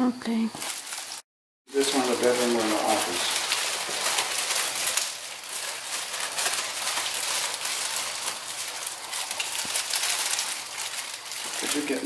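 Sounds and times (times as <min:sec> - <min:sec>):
small irregular crackles: 0:00.3 - 0:12.0
steady hiss: 0:00.6 - 0:12.0.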